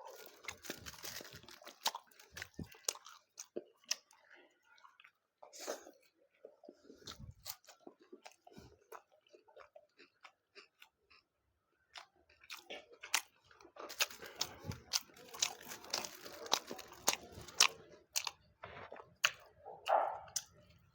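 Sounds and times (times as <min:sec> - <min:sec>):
close-miked chewing and biting: 0:00.0 - 0:20.9.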